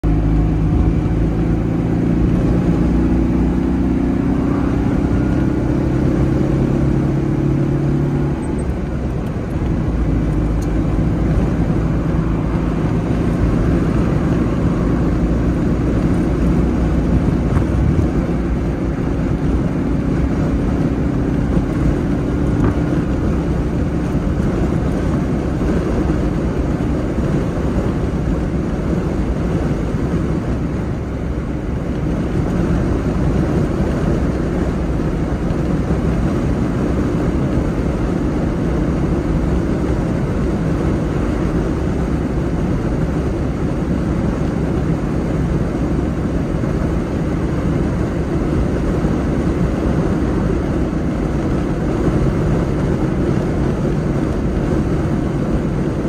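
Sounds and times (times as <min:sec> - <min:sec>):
car engine running: 0:00.0 - 0:56.0
wind and road noise: 0:00.0 - 0:56.0.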